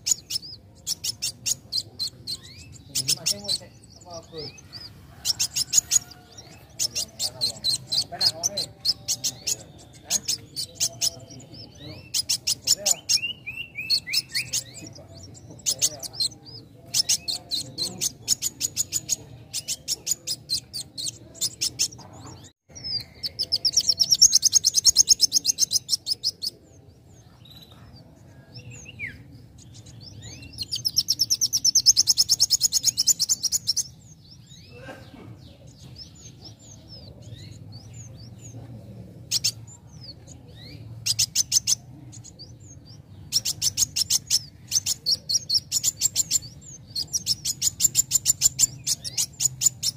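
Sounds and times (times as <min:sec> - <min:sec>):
long dense bird trills: 0:00.0 - 0:49.9
sunbird singing: 0:00.0 - 0:49.9.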